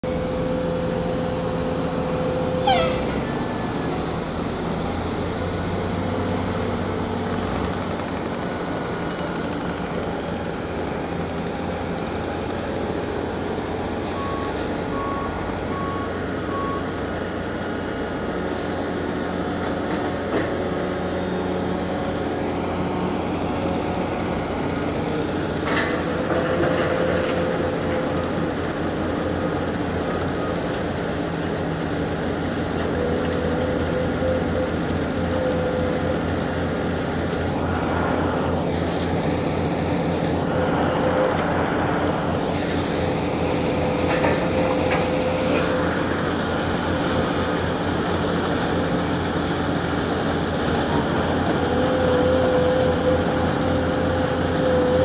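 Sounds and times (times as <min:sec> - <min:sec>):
diesel machinery drone: 0:00.0 - 0:55.0.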